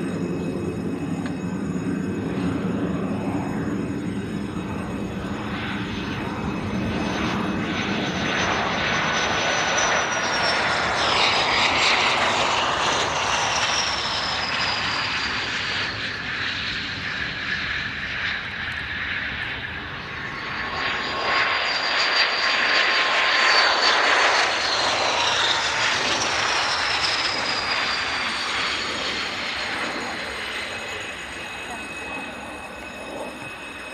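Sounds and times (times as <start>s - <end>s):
jet engines roaring past: 0.0s - 33.9s.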